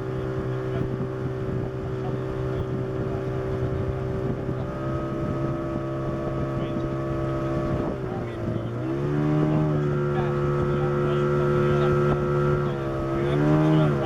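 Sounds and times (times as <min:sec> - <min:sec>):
motorboat engine running: 0:00.0 - 0:14.0
rush of wind and water: 0:00.0 - 0:14.0.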